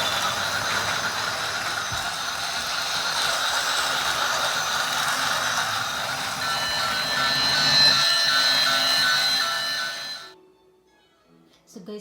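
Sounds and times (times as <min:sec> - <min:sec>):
simple electronic tune: 0:00.0 - 0:10.3
toy train motor whirring: 0:00.0 - 0:10.4.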